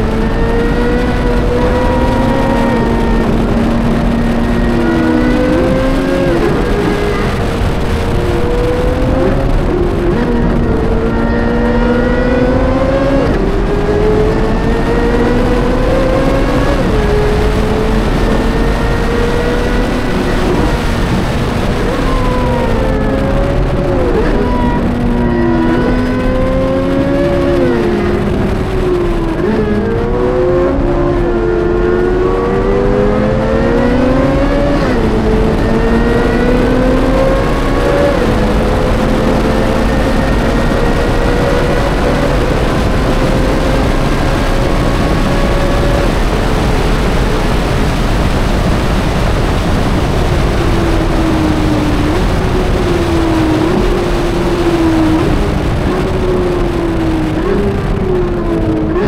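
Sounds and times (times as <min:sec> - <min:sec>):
sports car engine at full throttle: 0:00.0 - 0:59.0.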